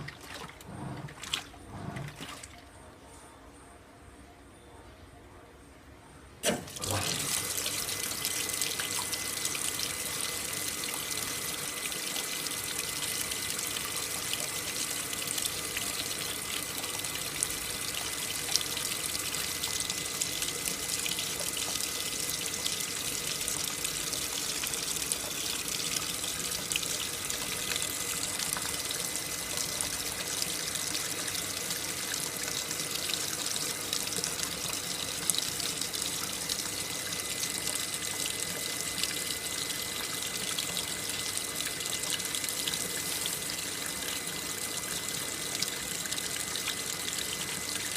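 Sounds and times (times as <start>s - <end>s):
water pouring into washing machine: 0.0s - 2.6s, 6.4s - 47.9s.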